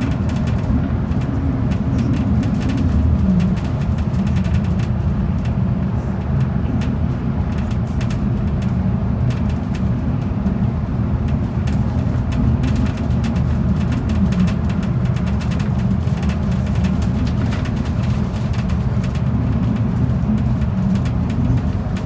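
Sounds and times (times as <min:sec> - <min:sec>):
bus engine and road drone: 0:00.0 - 0:22.0
light rattles and clicks: 0:00.0 - 0:22.0.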